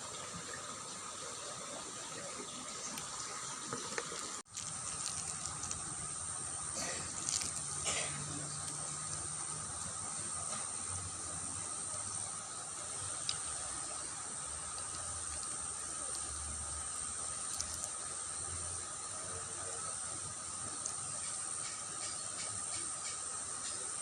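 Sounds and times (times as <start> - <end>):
water gushing in a ditch: 0.0 - 22.7.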